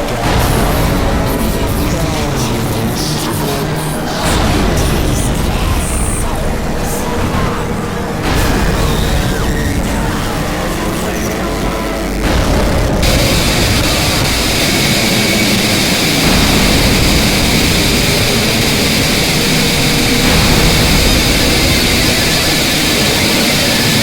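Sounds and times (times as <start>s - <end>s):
roaring noise: 0.0s - 24.0s.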